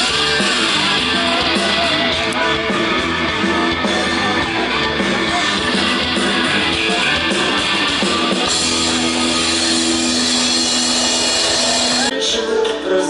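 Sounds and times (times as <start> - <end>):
rock music with electric guitars: 0.0 - 13.0.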